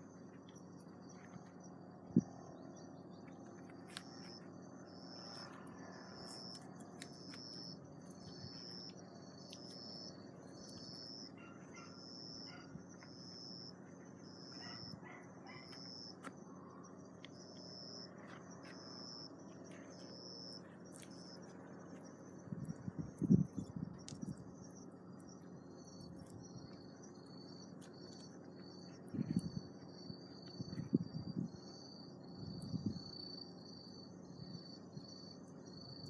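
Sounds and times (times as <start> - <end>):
insect chirping: 0.0 - 36.0.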